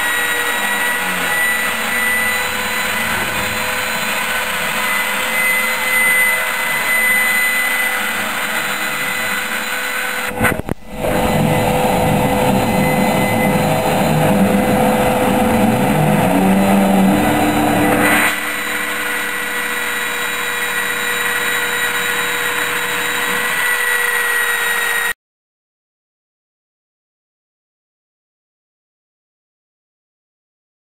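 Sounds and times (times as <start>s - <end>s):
cnc router whining: 0.0s - 25.2s.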